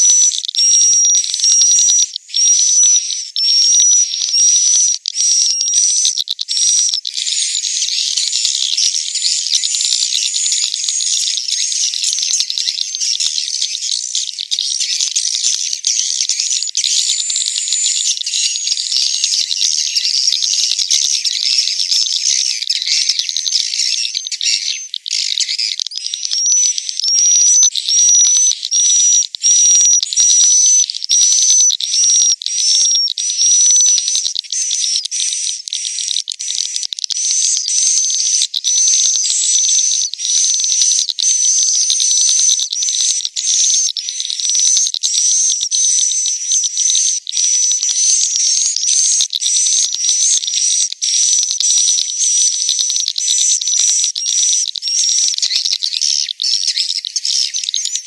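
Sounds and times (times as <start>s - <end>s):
swiftlets chirping and clicking: 3.2s - 58.0s.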